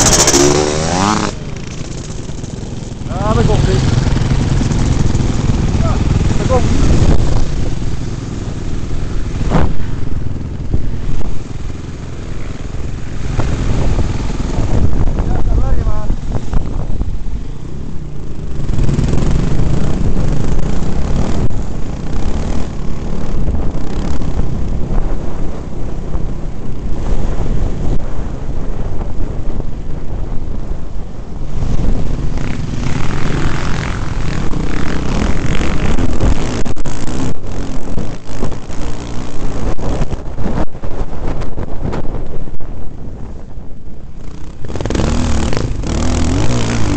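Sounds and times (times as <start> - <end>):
motorcycle engine revving: 0.0 - 29.8, 31.4 - 41.8, 44.0 - 46.9
motorcycle engines rumbling: 0.0 - 46.9.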